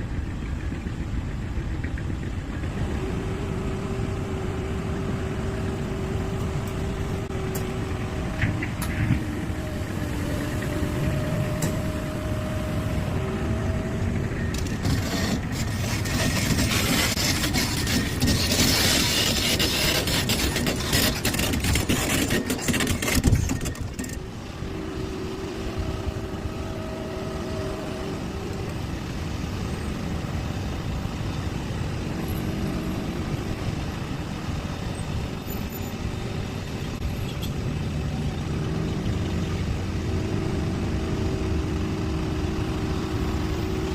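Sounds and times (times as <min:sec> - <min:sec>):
excavator diesel engine running: 0:00.0 - 0:43.9
hydraulic whine: 0:02.7 - 0:43.9.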